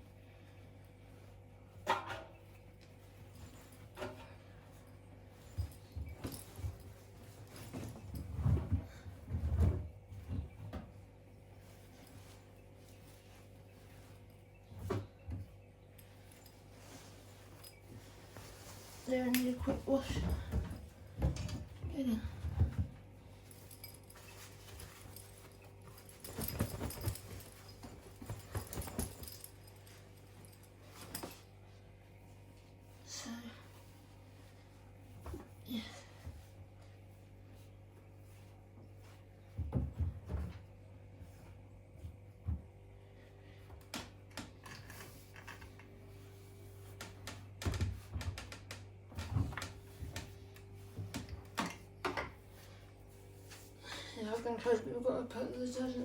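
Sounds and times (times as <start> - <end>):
steady low hum: 0.0 - 56.0
laundry knocking and rustling: 1.7 - 31.8, 34.0 - 56.0.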